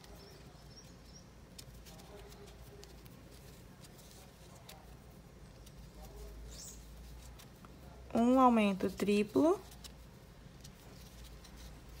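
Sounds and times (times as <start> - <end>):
crochet hook scratching yarn: 0.0 - 12.0.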